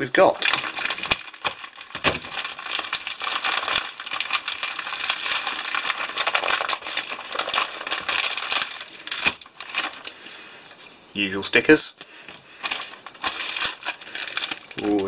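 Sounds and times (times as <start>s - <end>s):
plastic bag crinkling: 0.0s - 10.9s, 12.1s - 15.0s.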